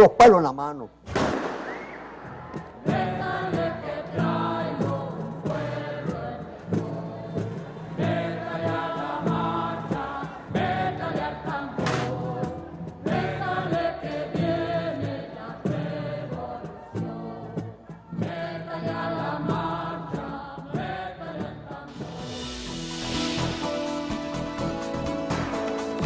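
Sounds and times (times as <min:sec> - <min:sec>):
instrumental backing with beat: 0:02.0 - 0:26.0
voices singing in chorus: 0:02.4 - 0:26.0.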